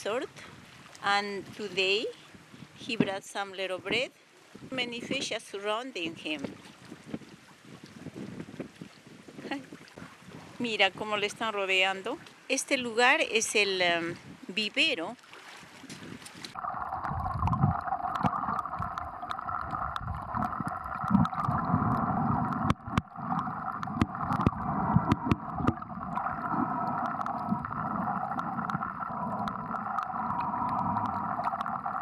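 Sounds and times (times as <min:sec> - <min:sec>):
water sloshing and gurgling: 0:00.0 - 0:03.2, 0:06.0 - 0:12.6, 0:15.1 - 0:32.0.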